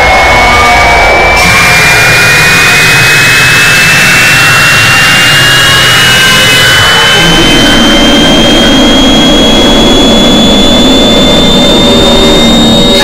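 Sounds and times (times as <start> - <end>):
dense rough roar: 0.0 - 13.0
piercing high tone climbing: 0.0 - 13.0.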